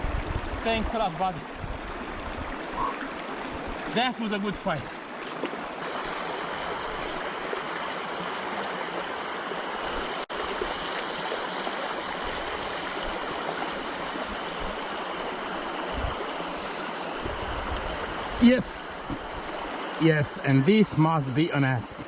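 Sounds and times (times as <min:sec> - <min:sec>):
river water rushing: 0:00.1 - 0:22.0.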